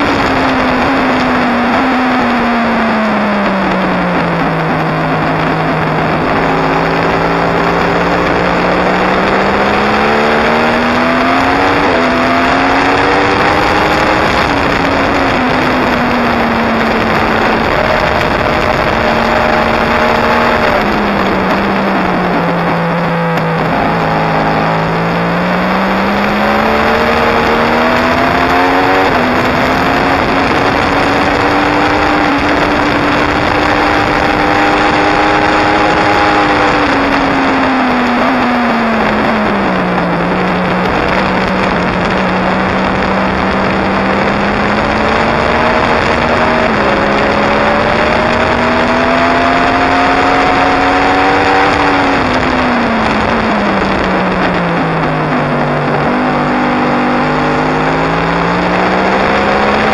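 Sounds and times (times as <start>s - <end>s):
loud rush of wind: 0.0s - 59.9s
motorcycle engine running hard: 0.0s - 59.9s.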